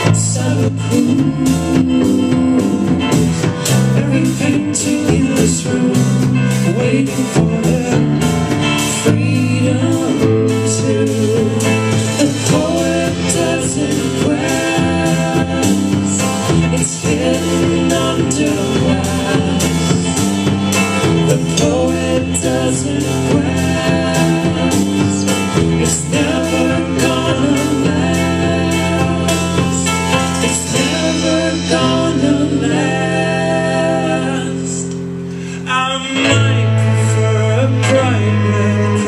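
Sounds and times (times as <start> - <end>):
folk-pop band playing live: 0.0 - 39.0
person singing: 0.0 - 39.0.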